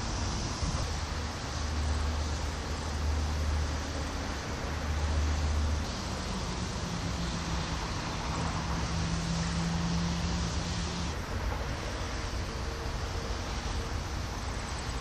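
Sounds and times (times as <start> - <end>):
higher steady engine hum: 0.0 - 15.0
low engine hum: 0.0 - 15.0
traffic noise: 0.0 - 15.0.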